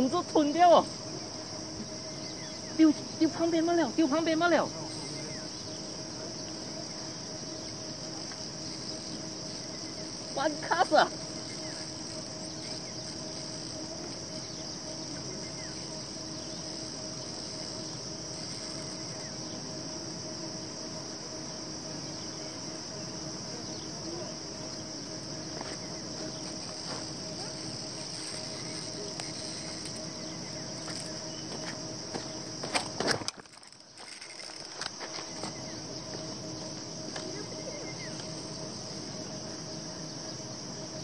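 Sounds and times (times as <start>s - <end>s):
faint low hum: 0.0s - 41.0s
insects chorus: 0.0s - 41.0s.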